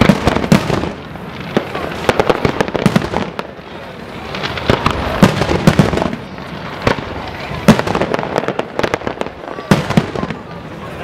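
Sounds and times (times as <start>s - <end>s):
fireworks bursting with sharp bangs: 0.0s - 11.0s
steady background noise: 0.0s - 11.0s.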